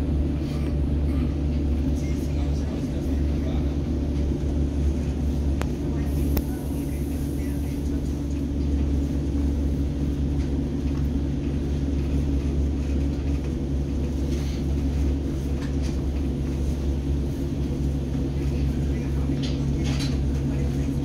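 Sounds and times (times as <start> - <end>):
subway train rumbling: 0.0 - 21.0.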